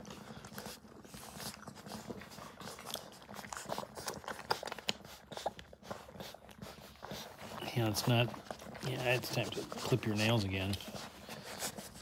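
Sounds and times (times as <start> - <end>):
puppies suckling clicks and smacks: 0.0 - 12.0.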